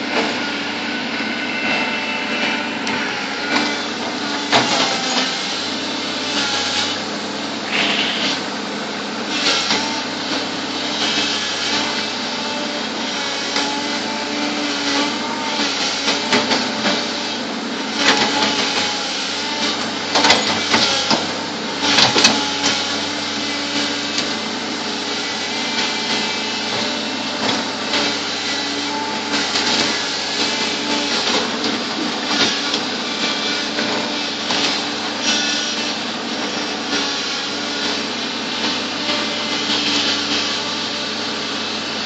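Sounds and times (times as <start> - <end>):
bulldozer engine running: 0.0 - 42.0.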